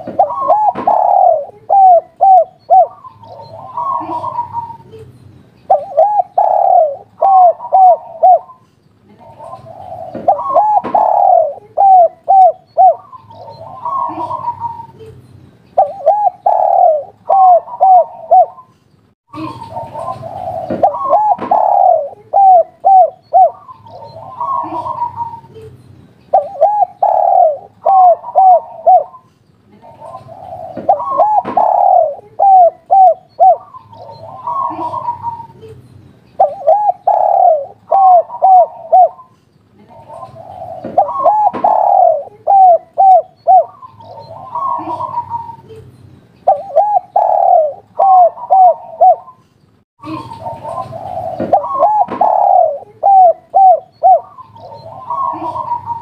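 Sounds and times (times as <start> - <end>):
dove cooing: 0.0 - 5.0, 5.7 - 8.6, 9.2 - 15.1, 15.8 - 18.7, 19.4 - 25.7, 26.3 - 35.8, 36.4 - 39.3, 39.9 - 45.8, 46.4 - 49.4, 50.0 - 56.0.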